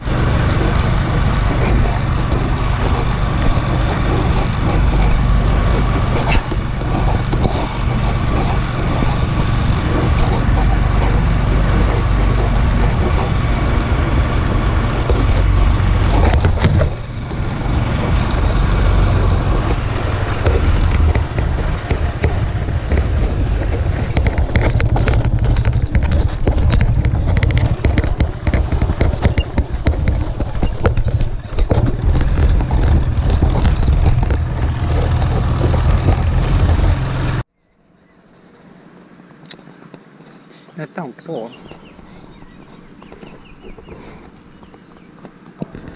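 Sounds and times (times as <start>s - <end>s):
low rumble: 0.0s - 37.5s
wind buffeting microphone: 0.0s - 37.5s.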